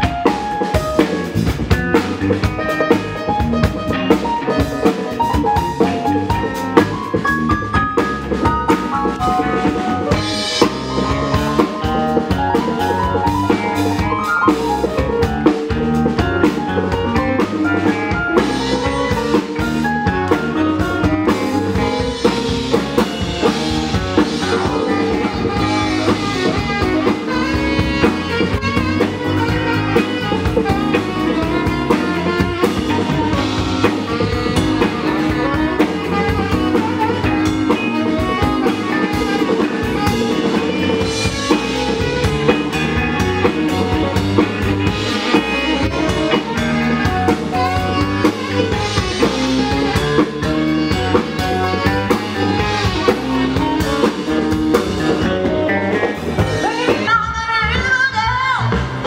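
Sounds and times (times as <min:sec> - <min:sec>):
tenor saxophone: 0:00.0 - 0:57.7
soul band playing: 0:00.0 - 0:59.0.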